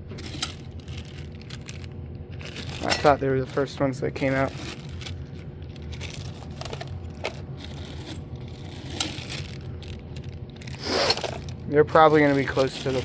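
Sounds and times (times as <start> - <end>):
hands rummaging through small parts: 0.0 - 13.0.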